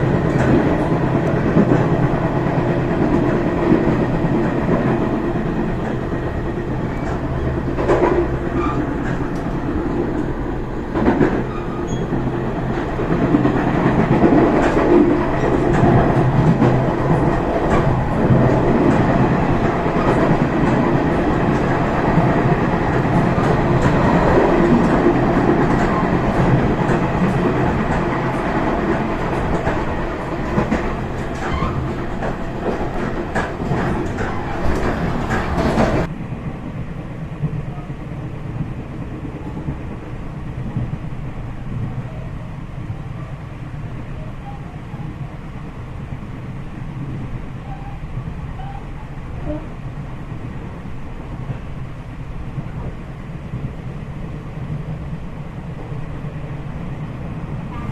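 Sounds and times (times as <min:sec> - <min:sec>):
clickety-clack of rail joints: 0:00.0 - 0:57.9
train wheels rumbling on track: 0:00.0 - 0:57.9.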